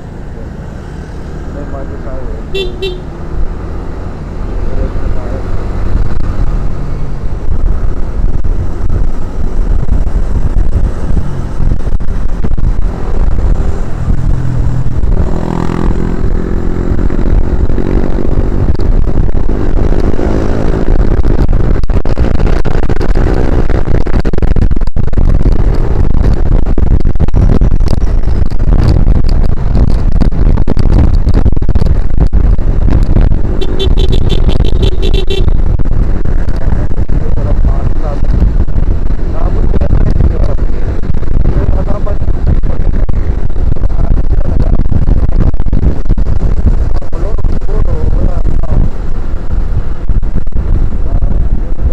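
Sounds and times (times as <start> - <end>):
motorcycle engine rumbling: 0.0 - 51.9.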